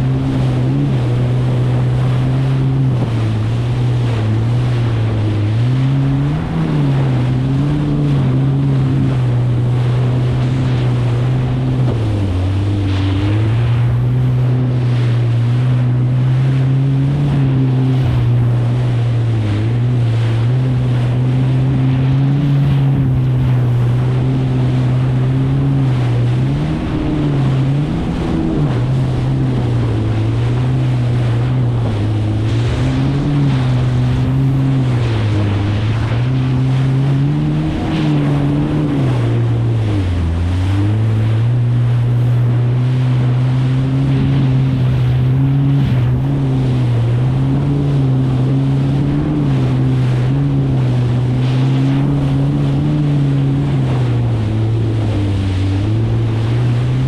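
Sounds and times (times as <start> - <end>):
jet ski engine running: 0.0 - 57.0
water rushing: 0.0 - 57.0
wind noise on microphone: 0.0 - 57.0.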